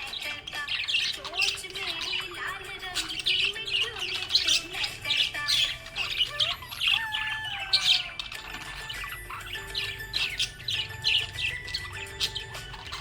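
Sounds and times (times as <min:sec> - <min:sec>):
budgie chirping and warbling: 0:00.0 - 0:13.0.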